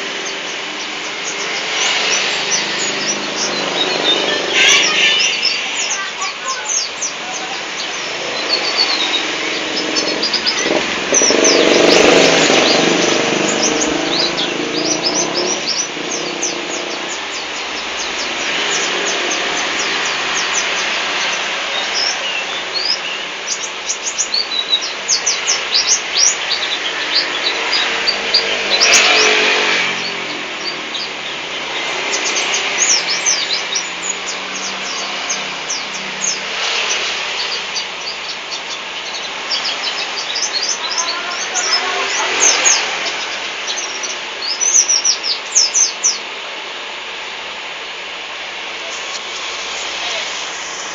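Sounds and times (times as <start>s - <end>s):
bird chirping and twittering: 0.0s - 46.4s, 48.8s - 50.9s
rushing noise: 0.0s - 50.9s.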